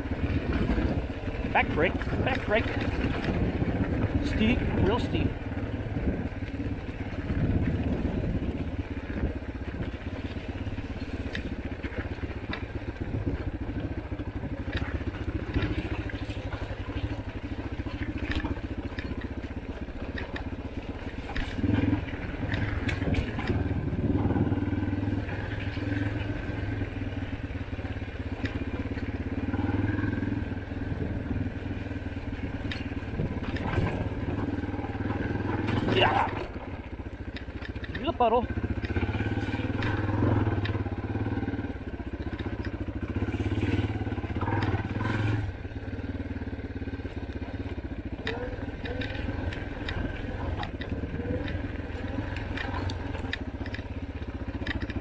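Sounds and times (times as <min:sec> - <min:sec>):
dirt bike engine running: 0:00.0 - 0:55.0
gravel crunching under tyres: 0:00.0 - 0:55.0.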